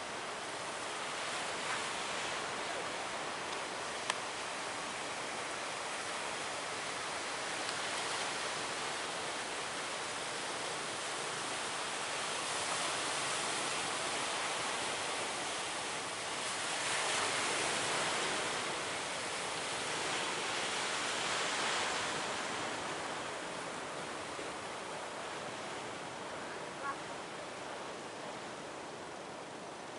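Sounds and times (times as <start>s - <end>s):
waves breaking: 0.0s - 29.9s.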